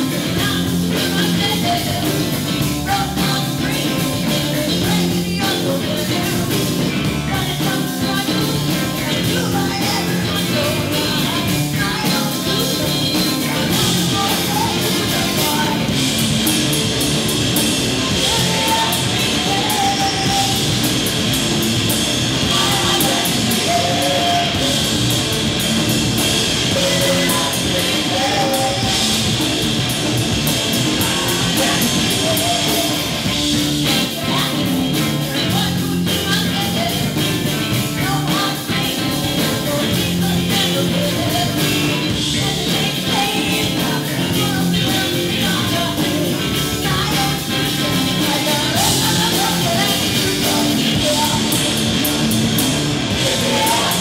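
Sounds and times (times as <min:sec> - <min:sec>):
drums with cymbals: 0:00.0 - 0:54.0
electric bass: 0:00.0 - 0:54.0
woman singing lead: 0:00.0 - 0:54.0.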